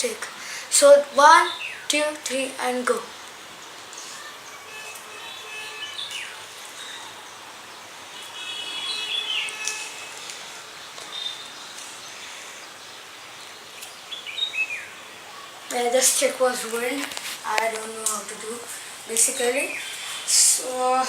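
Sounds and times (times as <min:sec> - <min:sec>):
birds chirping: 0:00.0 - 0:21.0
low background hiss: 0:00.0 - 0:21.0.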